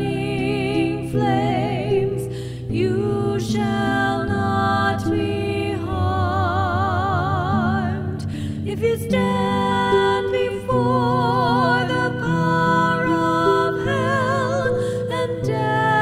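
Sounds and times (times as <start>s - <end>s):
harp: 0.0s - 16.0s
woman singing with vibrato: 0.0s - 16.0s.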